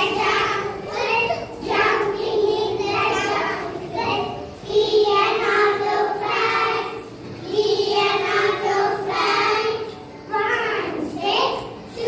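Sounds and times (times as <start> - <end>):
children singing in unison: 0.0 - 11.2.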